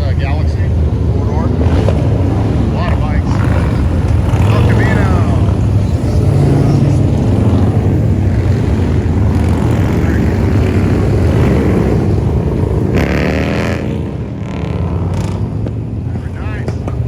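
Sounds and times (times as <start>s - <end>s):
car engines rumbling past: 0.0s - 17.0s.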